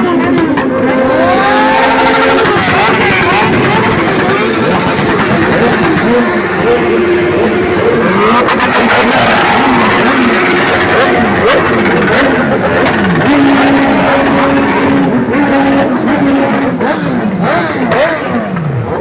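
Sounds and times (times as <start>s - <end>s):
motorcycles revving past: 0.0s - 19.0s.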